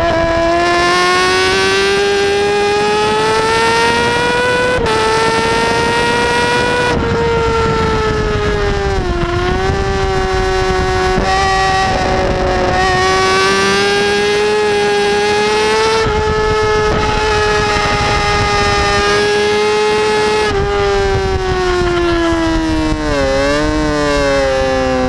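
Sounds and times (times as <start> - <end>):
motorcycle engine at high revs: 0.0 - 25.0
wind rush: 0.0 - 25.0.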